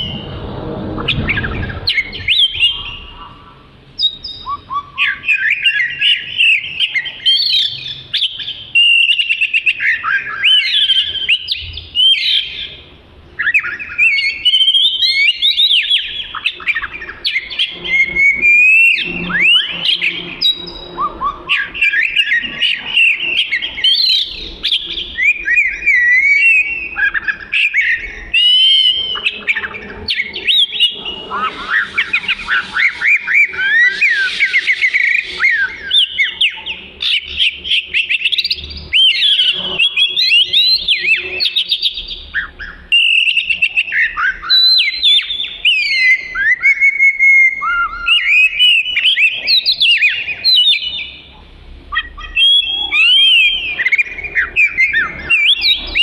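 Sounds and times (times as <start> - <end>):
bird whistling and trilling: 1.0 - 12.8, 13.4 - 56.0.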